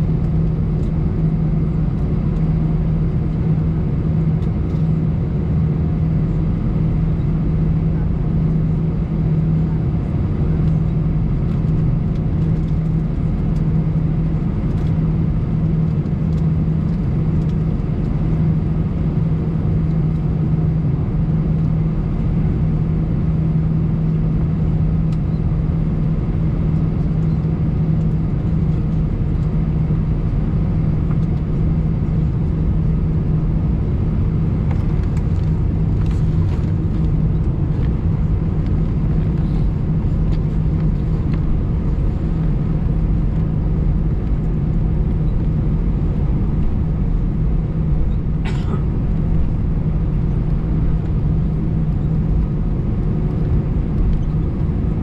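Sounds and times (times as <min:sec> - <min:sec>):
aircraft cabin engine hum: 0:00.0 - 0:55.0.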